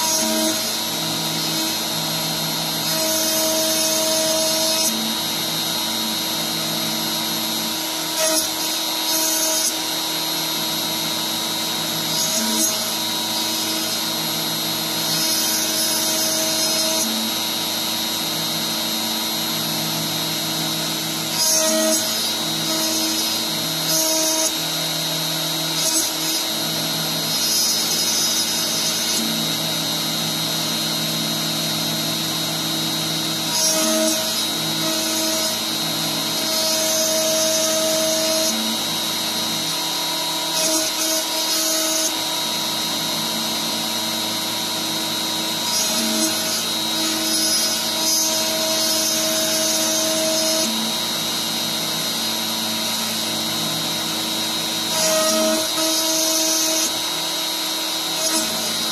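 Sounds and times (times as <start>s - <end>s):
router bit cutting wood: 0.0s - 58.9s
router spindle high whine: 0.0s - 58.9s.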